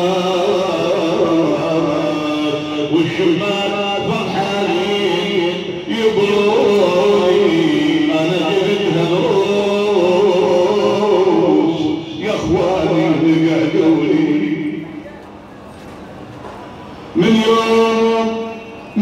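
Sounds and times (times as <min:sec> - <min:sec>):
man chanting a lament: 0:00.0 - 0:14.9, 0:17.2 - 0:19.0.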